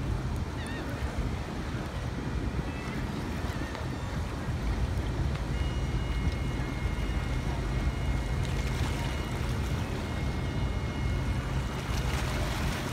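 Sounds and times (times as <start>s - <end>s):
distant paddlewheel churning: 0.0s - 12.9s
river water washing: 0.0s - 12.9s
wind rumble on microphone: 0.0s - 12.9s.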